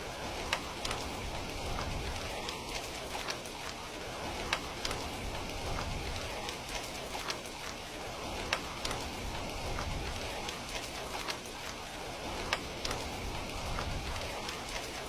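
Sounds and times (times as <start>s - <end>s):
fireplace crackling and popping: 0.0s - 15.0s
steady rain: 0.0s - 15.0s.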